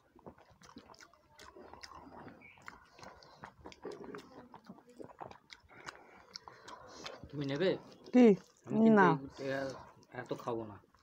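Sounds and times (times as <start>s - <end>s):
chewing and mouth clicks: 0.0s - 11.0s.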